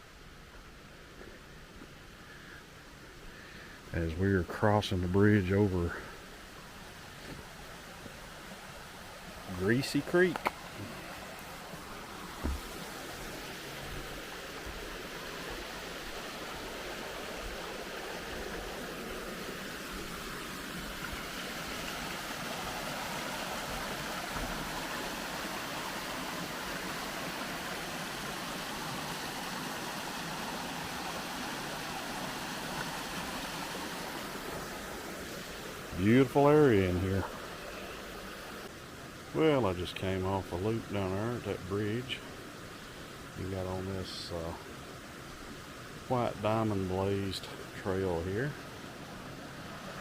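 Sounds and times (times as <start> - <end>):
creek water running: 0.0 - 50.0.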